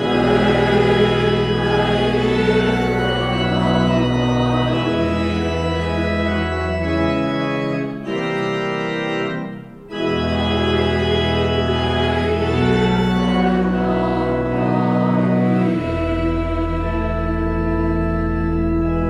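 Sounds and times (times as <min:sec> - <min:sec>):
deep bass organ notes: 0:00.0 - 0:19.0
organ playing held chords: 0:00.0 - 0:19.0.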